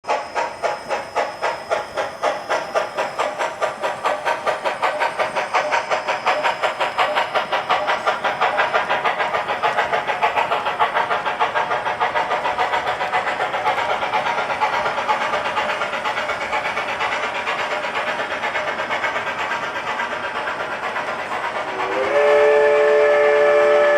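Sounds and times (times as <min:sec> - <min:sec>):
model train rhythmic pulsing: 0:00.0 - 0:23.9.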